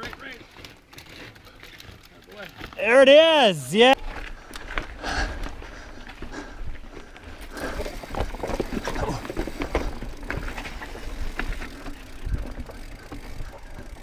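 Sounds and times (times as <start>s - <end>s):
bike knocking and rattling: 0.0s - 2.9s, 4.0s - 14.0s.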